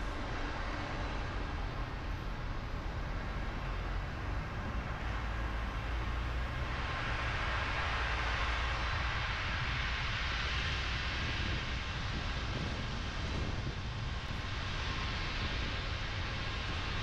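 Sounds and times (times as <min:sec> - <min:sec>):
low road rumble: 0:00.0 - 0:17.0
tyres hissing on wet road: 0:00.0 - 0:17.0.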